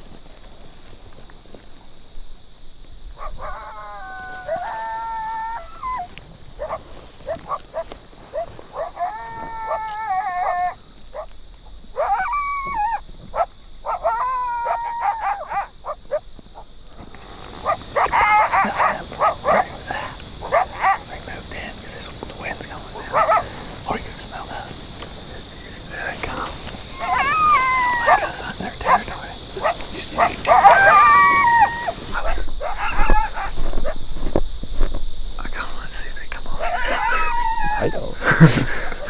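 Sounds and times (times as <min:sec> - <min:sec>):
coyotes howling: 0:03.1 - 0:34.4, 0:35.8 - 0:39.0
coyotes yipping and barking: 0:03.1 - 0:34.4, 0:35.8 - 0:39.0.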